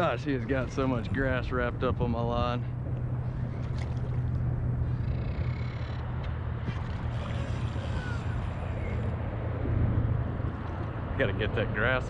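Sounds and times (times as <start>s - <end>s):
water around kayak: 0.0s - 12.0s
wind rumble: 0.0s - 12.0s.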